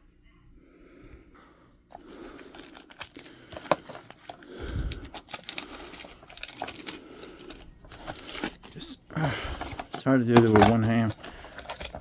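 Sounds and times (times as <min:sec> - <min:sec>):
packaging rustling and crinkling: 0:02.3 - 0:12.0.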